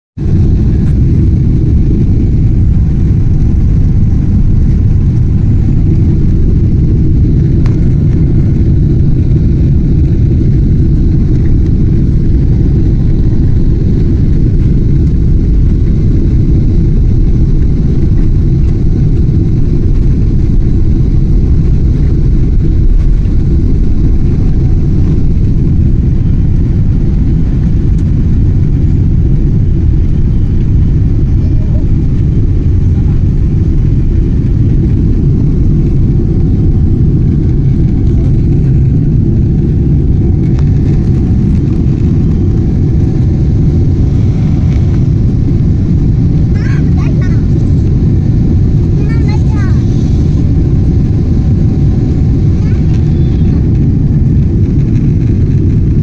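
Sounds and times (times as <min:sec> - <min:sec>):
airliner engine rumble: 0:00.0 - 0:56.0.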